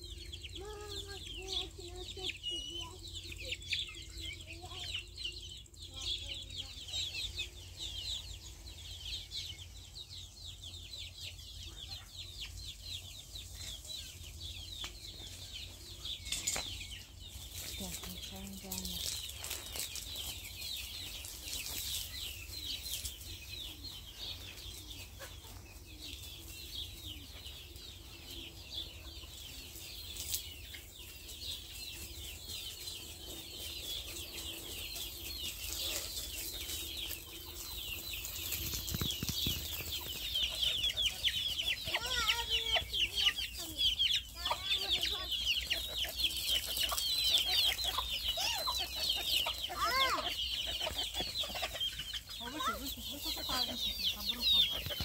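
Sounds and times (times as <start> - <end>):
chickens clucking: 0.0 - 55.0
small birds chirping: 0.0 - 55.0.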